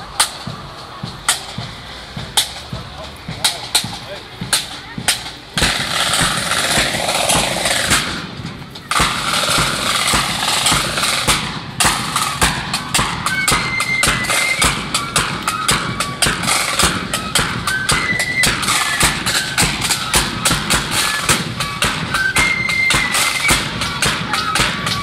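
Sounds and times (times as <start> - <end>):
flutes playing a tune: 0.0 - 25.0
loud rushing noise: 0.0 - 25.0
marching drums: 0.0 - 25.0.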